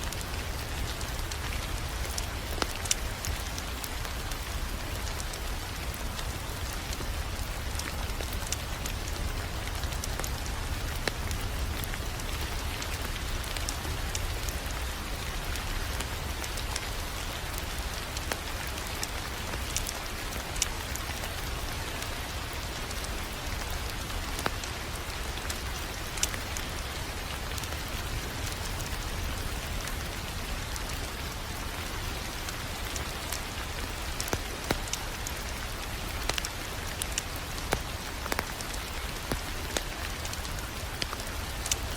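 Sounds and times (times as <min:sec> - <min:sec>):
wood fire crackling: 0:00.0 - 0:41.9
fire pops and snaps: 0:00.1 - 0:41.9.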